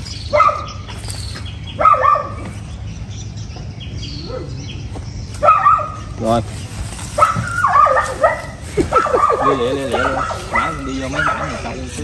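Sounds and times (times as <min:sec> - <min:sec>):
loud bird calls: 0:00.0 - 0:12.0
small birds chirping: 0:00.0 - 0:12.0.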